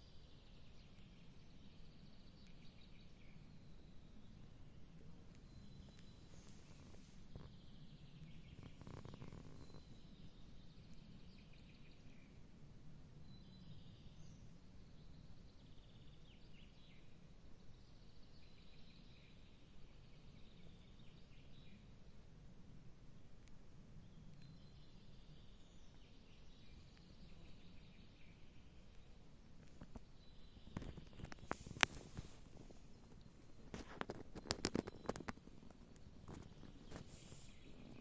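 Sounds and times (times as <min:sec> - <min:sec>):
songbird singing: 0:00.0 - 0:22.2, 0:23.2 - 0:38.0.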